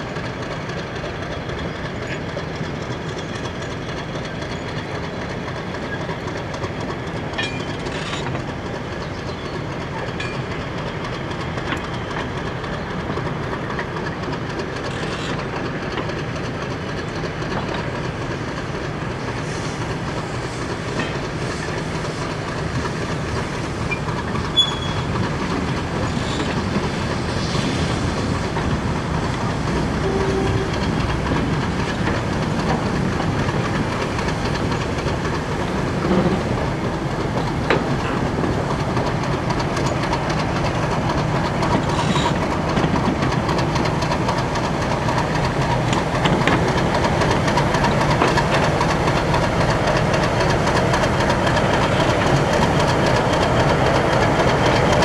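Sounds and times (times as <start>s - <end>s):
wheels clattering over rail joints: 0.0s - 19.0s, 22.5s - 55.0s
diesel locomotive engine rumble: 0.0s - 55.0s.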